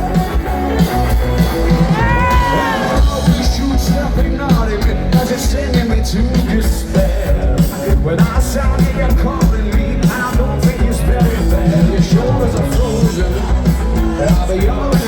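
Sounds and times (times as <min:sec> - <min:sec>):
person singing: 0:00.0 - 0:15.0
rock band playing: 0:00.0 - 0:15.0.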